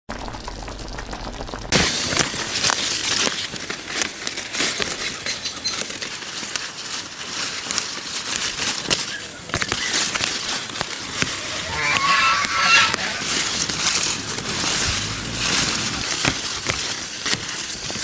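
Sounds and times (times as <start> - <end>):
dense crackling and rustling: 0.1 - 18.0.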